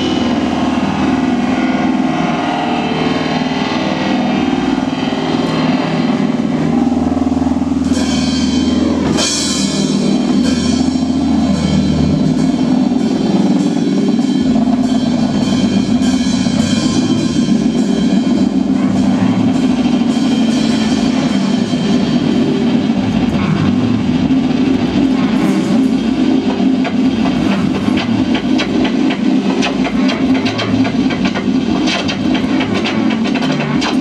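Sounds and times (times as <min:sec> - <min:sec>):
drum kit with cymbals: 0:00.0 - 0:34.0
low bass line: 0:00.0 - 0:34.0
psychedelic rock jam: 0:00.0 - 0:34.0.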